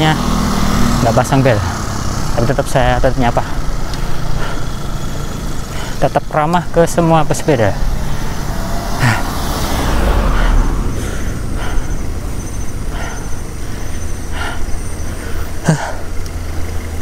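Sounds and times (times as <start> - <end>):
car passing: 0.0 - 17.0
low wind rumble: 0.0 - 17.0.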